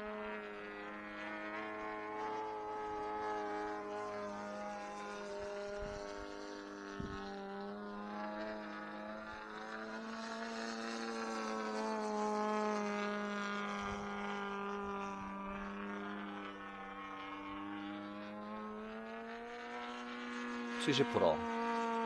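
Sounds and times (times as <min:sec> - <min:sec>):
model plane engine droning: 0:00.0 - 0:22.0.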